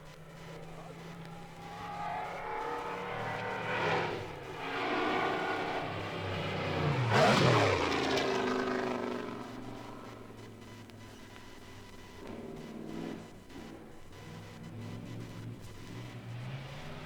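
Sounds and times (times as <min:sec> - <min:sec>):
racing car passing by: 0:00.0 - 0:10.7, 0:12.2 - 0:17.0.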